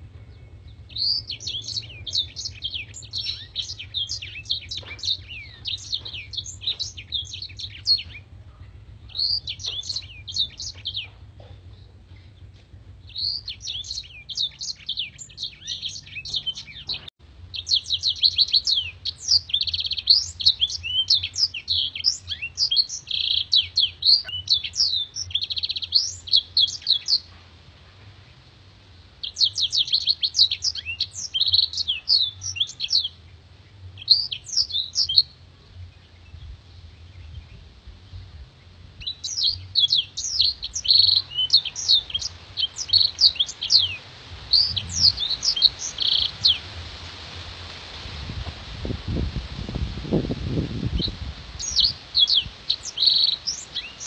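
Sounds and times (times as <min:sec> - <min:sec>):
canary singing chirps and trills: 0:00.0 - 0:27.3, 0:29.2 - 0:46.7, 0:50.8 - 0:54.0.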